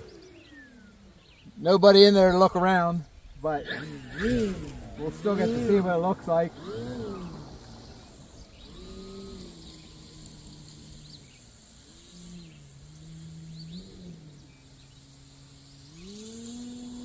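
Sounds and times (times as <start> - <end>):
model plane electric motor hum: 0.0 - 17.0.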